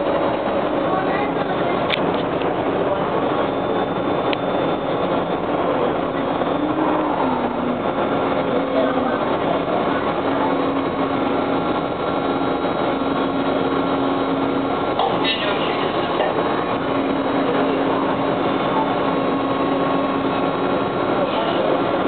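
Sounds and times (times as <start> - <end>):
traction motor humming: 0.0 - 22.0
train wheels rolling on rail: 0.0 - 22.0.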